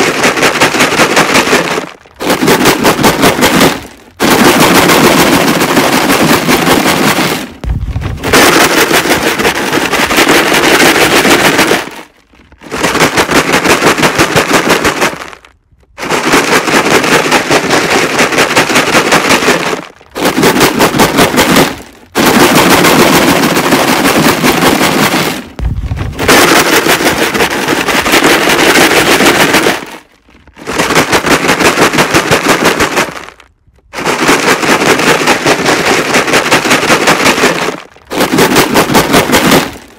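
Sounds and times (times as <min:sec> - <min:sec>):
rocks rattling in plastic jug: 0:00.0 - 0:39.9.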